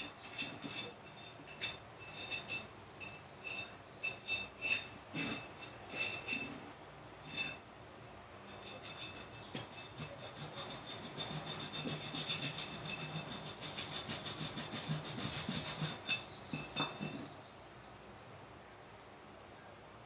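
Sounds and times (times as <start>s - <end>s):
rusty metal being scraped: 0.0s - 7.7s, 8.4s - 17.4s.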